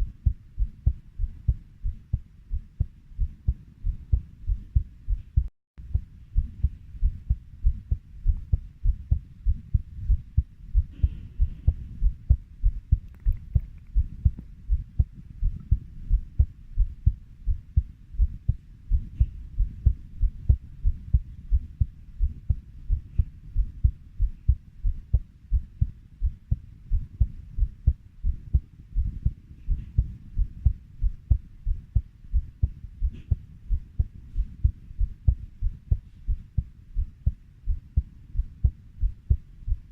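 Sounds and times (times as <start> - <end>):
heartbeat double thump: 0.0 - 39.9.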